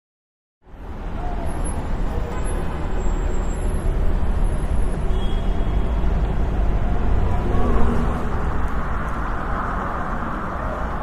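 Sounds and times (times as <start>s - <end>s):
road traffic rumble: 0.6s - 11.0s.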